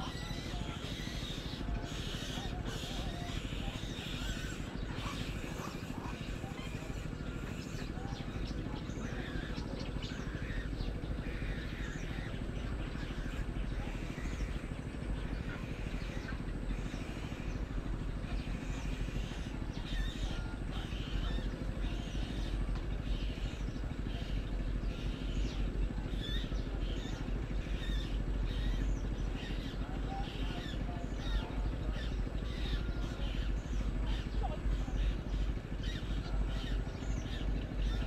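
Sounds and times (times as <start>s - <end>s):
bird chirps and calls: 0.0s - 38.0s.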